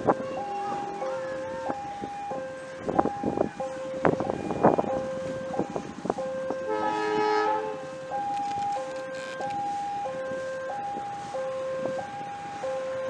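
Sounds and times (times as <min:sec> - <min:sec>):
locomotive horn: 0:00.0 - 0:13.0
two-tone level crossing alarm: 0:00.0 - 0:13.0.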